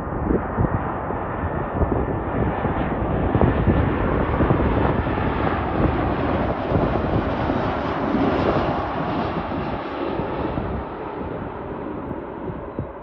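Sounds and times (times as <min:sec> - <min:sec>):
jet airliner passing low: 0:00.0 - 0:13.0.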